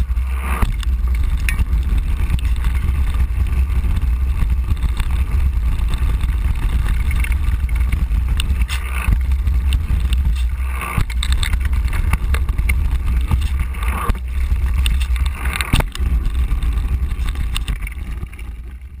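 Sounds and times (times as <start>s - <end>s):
bike rattling on gravel: 0.0s - 19.0s
wind buffeting microphone: 0.0s - 19.0s.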